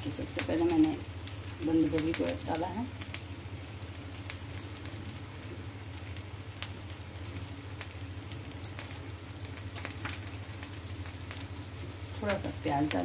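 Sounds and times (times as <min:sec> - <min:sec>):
batter sizzling on a hot pan: 0:00.0 - 0:13.0.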